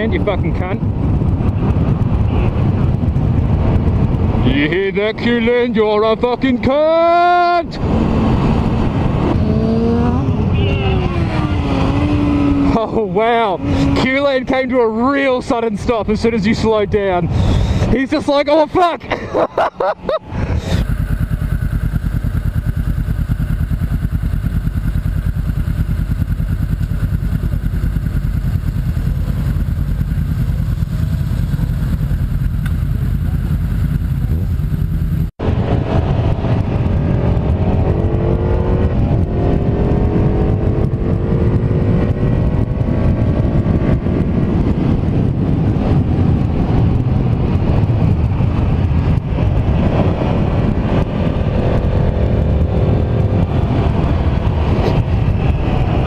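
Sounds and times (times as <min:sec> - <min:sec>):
motorcycle engine: 0:00.0 - 0:06.4, 0:07.0 - 0:15.5, 0:19.9 - 0:56.0
wind noise on microphone: 0:00.0 - 0:56.0.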